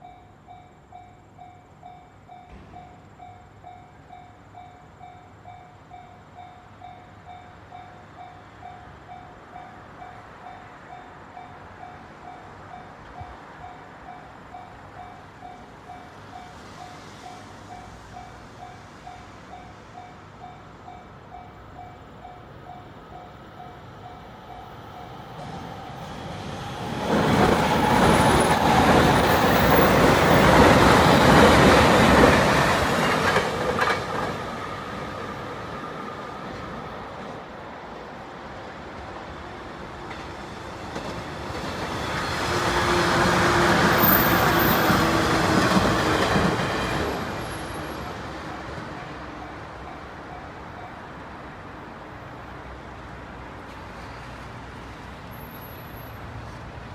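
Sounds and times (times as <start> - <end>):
train wheels on rail: 0.7 - 56.9.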